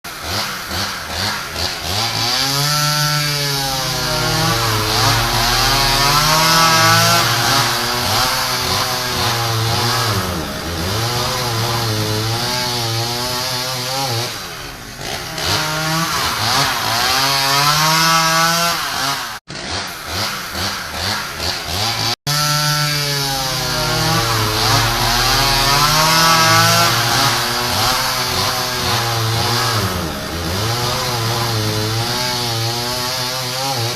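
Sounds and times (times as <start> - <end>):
angle grinder running: 1.6 - 17.8, 22.4 - 33.9.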